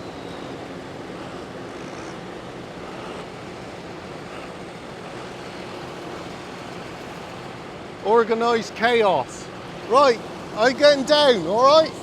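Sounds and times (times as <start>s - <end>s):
many tractor engines running: 0.0s - 12.0s.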